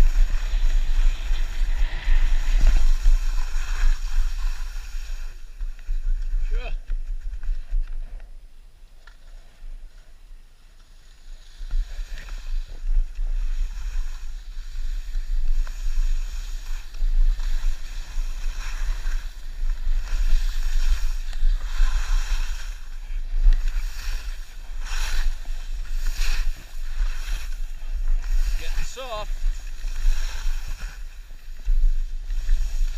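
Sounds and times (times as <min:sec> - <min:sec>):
skis carving over snow: 0:00.0 - 0:32.9.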